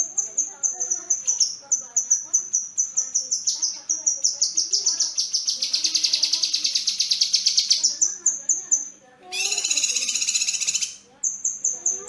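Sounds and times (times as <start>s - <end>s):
songbird singing trill: 0.0s - 12.0s.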